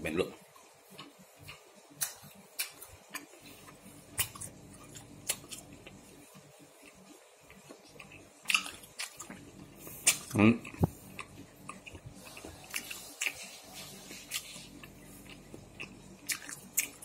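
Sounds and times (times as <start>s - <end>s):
faint low hum: 0.0s - 17.0s
person chewing with mouth clicks: 0.6s - 6.2s, 6.8s - 17.0s.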